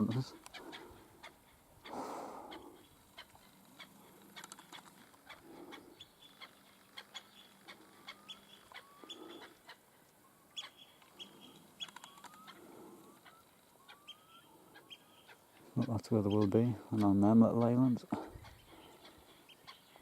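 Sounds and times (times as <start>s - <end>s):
distant birds calling: 0.0s - 20.0s.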